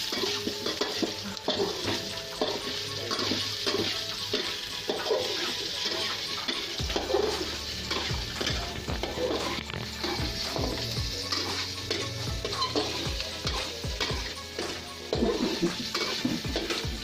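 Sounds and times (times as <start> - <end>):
meat sizzling in oil: 0.0 - 17.0
utensil scraping pan: 0.0 - 17.0.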